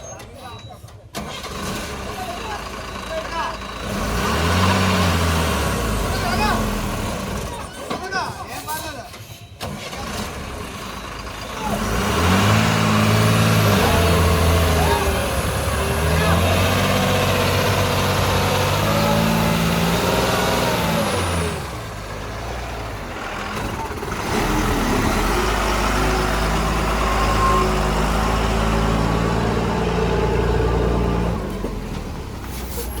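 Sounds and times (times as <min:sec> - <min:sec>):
lorry diesel engine pulling hard: 0:00.0 - 0:33.0.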